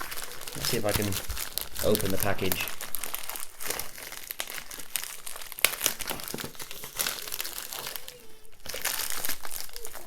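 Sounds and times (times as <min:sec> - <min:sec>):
package wrapping crinkling: 0:00.0 - 0:10.0.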